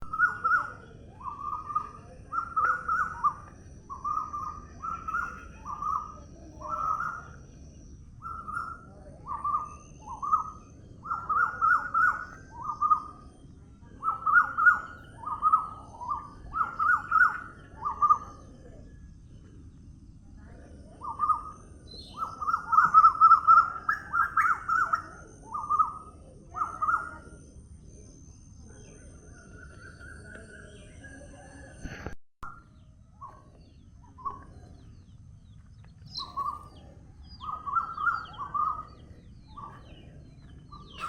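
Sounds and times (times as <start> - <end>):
bird calling: 0.0 - 18.9, 20.9 - 27.5, 33.2 - 41.0.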